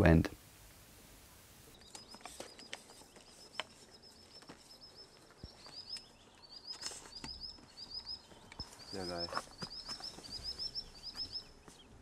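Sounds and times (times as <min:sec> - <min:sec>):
small bird chirping: 0:01.6 - 0:12.0.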